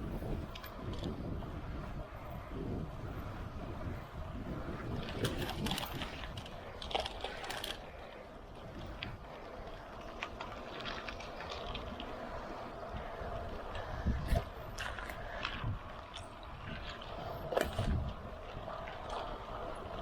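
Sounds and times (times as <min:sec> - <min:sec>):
bike clicks and rattles: 0:00.0 - 0:20.0
wind and road noise: 0:00.0 - 0:20.0.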